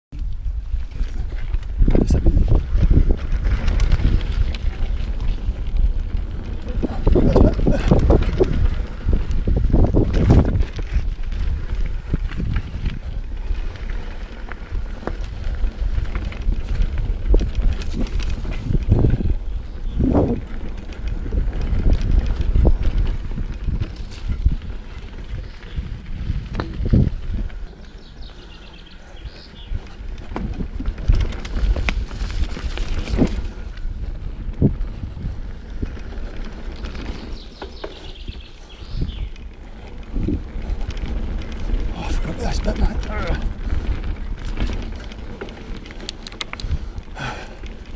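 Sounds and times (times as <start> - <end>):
wind buffeting microphone: 0.1 - 47.9
bike tyres clicking and rattling: 0.2 - 47.9.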